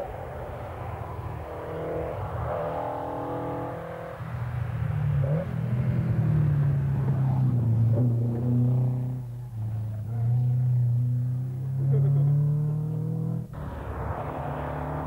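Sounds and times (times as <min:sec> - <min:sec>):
rally car engine at high revs: 0:01.4 - 0:04.2, 0:05.2 - 0:15.0.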